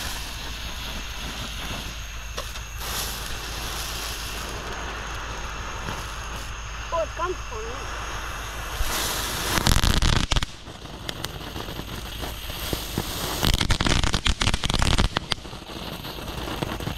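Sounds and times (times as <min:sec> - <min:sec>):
crackling pops: 0:00.0 - 0:07.8, 0:08.8 - 0:16.9
fireworks spraying sparks with hiss: 0:00.0 - 0:16.9.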